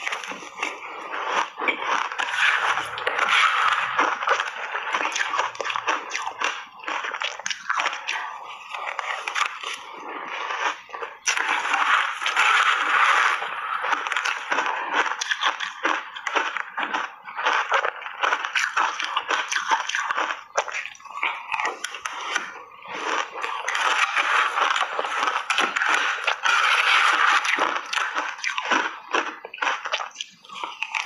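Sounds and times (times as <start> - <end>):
crunching and chewing ice: 0.0 - 31.0.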